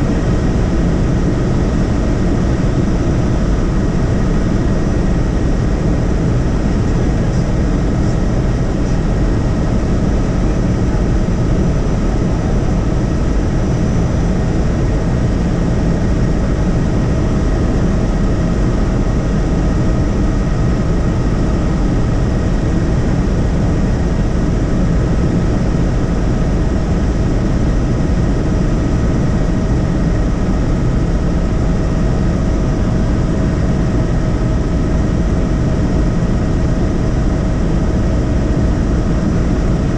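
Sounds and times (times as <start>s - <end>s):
helicopter engine and rotor drone: 0.0s - 39.9s
thin steady whine: 0.0s - 39.9s.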